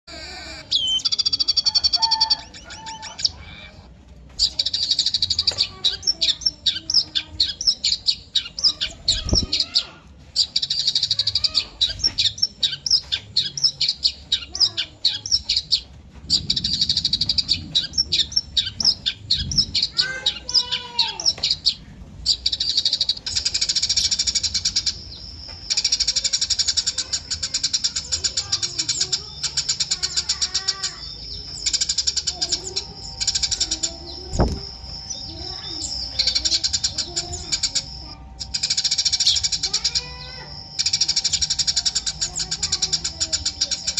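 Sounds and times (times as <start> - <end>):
sparrows chirping: 0.1 - 43.9.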